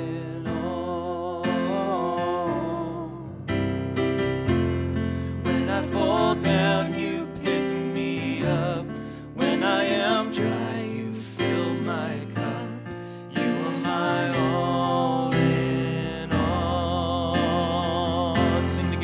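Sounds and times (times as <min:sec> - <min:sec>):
electric keyboard chords: 0:00.0 - 0:19.0.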